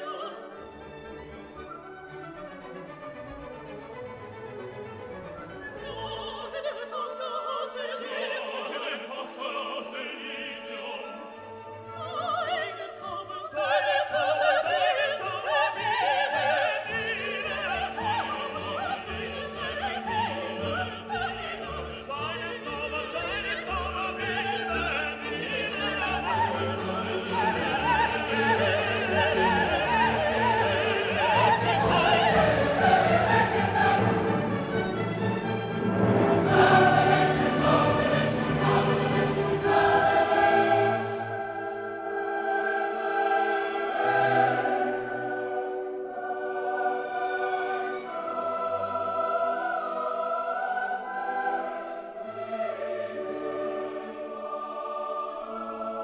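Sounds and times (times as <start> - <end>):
operatic singing: 0.0 - 2.8, 4.9 - 56.0
orchestral music: 0.0 - 56.0.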